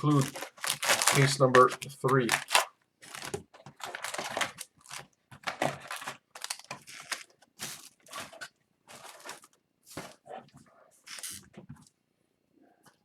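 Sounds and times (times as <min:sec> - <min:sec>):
plastic wrapping crinkling and tearing: 0:00.0 - 0:10.1, 0:11.1 - 0:11.4.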